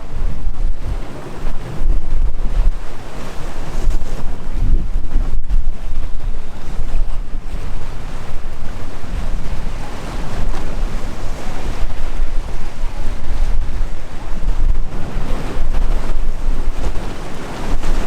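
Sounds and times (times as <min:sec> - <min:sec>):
waves breaking: 0:00.0 - 0:18.0
wind buffeting microphone: 0:00.0 - 0:18.0.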